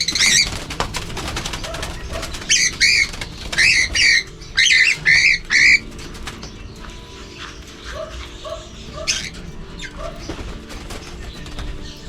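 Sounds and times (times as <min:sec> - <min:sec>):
cockatiel screeching: 0:00.0 - 0:12.0.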